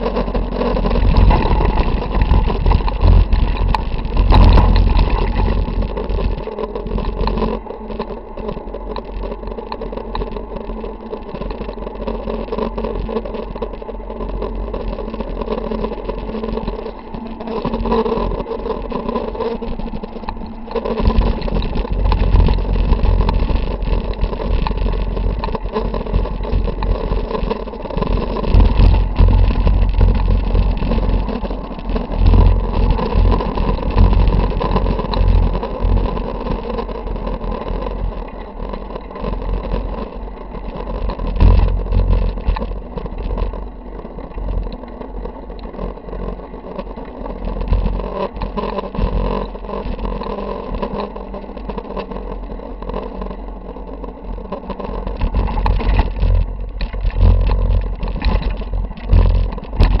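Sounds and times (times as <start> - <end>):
bike rattling and knocking: 0.0 - 60.0
bike tyre noise: 0.0 - 60.0
wind rumble on microphone: 0.0 - 60.0.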